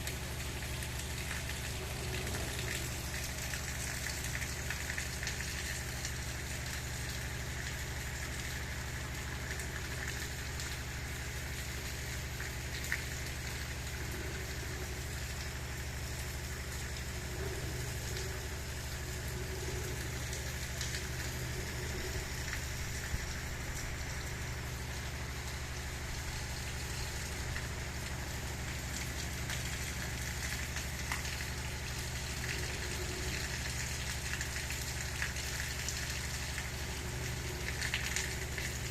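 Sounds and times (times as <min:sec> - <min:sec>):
gentle rain falling: 0:00.0 - 0:38.9
steady low hum: 0:00.0 - 0:38.9.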